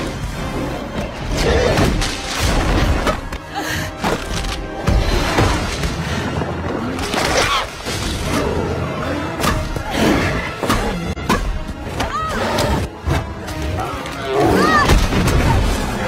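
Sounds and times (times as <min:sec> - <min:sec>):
orchestral score: 0:00.0 - 0:16.0.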